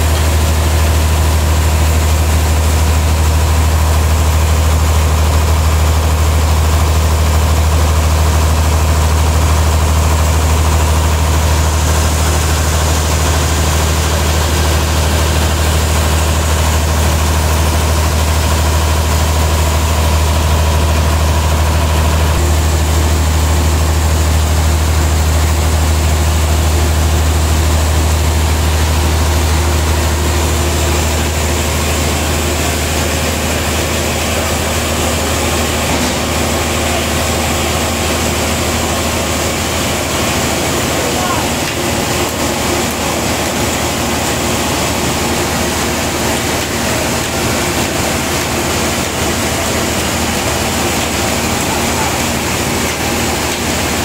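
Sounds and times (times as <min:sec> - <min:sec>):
stationary engine humming: 0:00.0 - 0:54.0.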